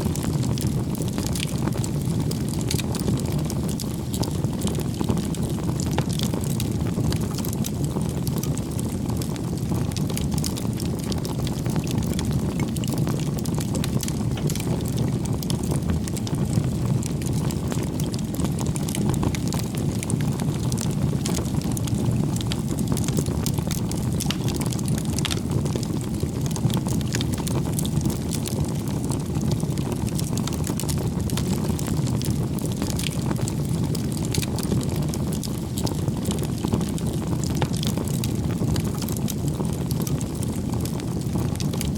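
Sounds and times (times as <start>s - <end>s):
bonfire flames rushing: 0.0s - 41.9s
burning wood crackling: 0.0s - 41.9s.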